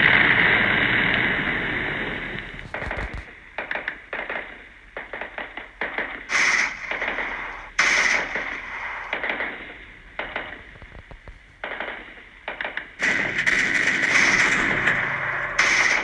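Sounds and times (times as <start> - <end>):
bursts of rapid gunfire: 2.0 - 10.7, 11.6 - 16.0.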